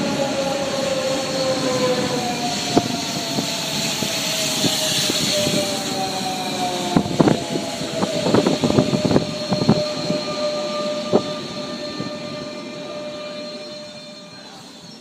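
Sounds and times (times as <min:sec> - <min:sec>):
train whine: 0:00.0 - 0:15.0.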